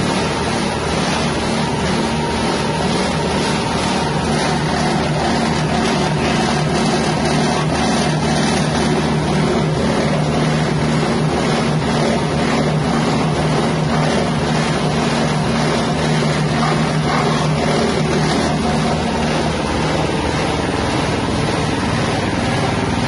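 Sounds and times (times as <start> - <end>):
hammer mill engine drone: 0.0 - 23.0.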